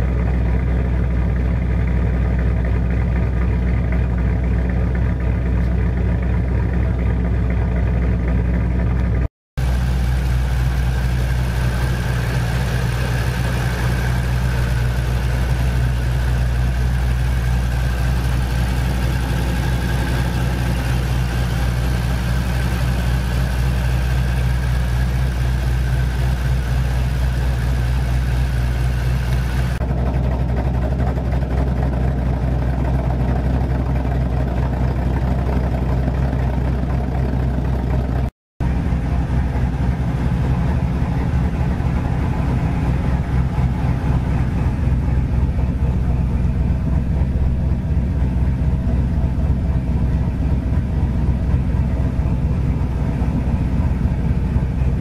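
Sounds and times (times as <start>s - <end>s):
car engine idling loud: 0.0s - 55.0s.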